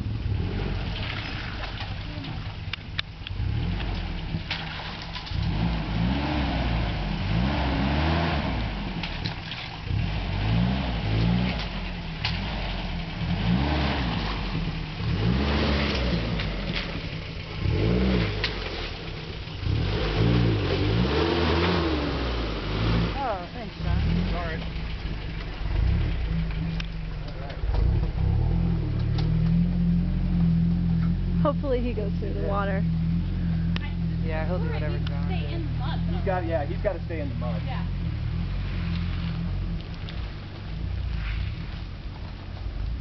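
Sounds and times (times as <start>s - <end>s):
low engine rumble: 0.0s - 43.0s
engine revving up and down: 3.3s - 40.3s.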